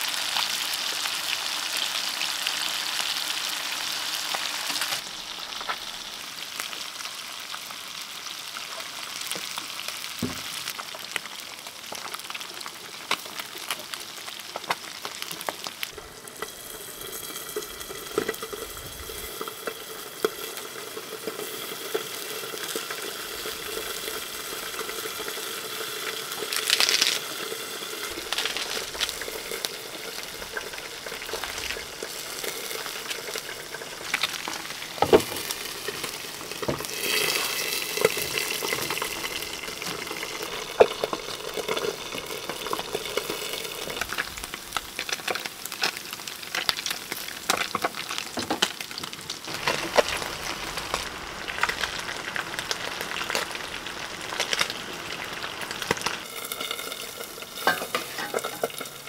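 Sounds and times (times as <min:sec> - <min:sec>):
greens sizzling in a wok: 0:00.0 - 0:59.0.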